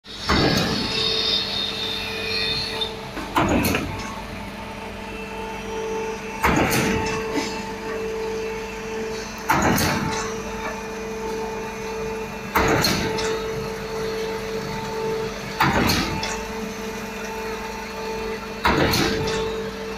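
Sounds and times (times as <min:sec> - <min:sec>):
concrete pump machine hum: 0:00.0 - 0:19.9.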